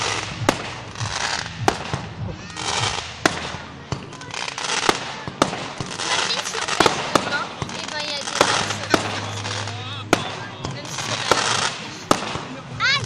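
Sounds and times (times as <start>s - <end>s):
crackling firework shells: 0.0s - 13.0s
fireworks bangs: 0.0s - 13.0s.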